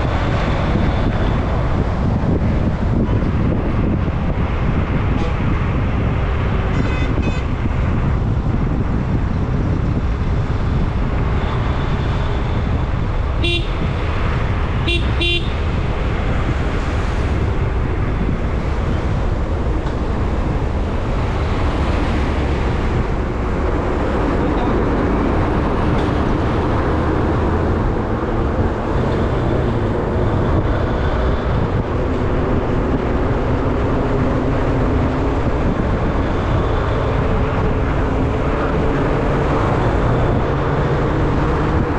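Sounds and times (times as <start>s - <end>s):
vehicle road and wind noise: 0.0s - 41.9s.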